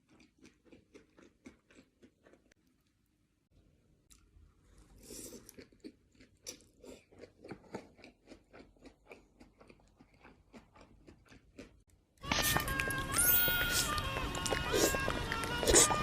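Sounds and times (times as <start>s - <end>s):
chewing and biting food: 0.0s - 2.9s, 5.1s - 16.0s.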